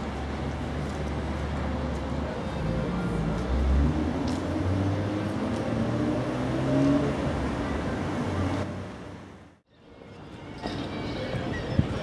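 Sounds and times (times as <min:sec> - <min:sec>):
outdoor town ambience: 0:00.0 - 0:12.0.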